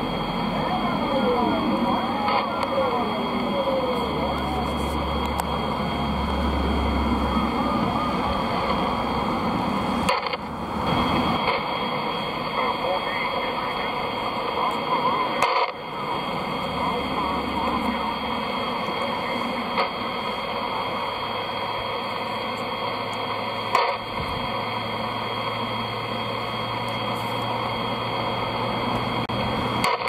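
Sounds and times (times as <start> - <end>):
sharp radio crackles: 0.0 - 9.2, 9.8 - 29.2, 29.8 - 30.0
low hum: 0.0 - 30.0
radio static hiss: 0.0 - 30.0.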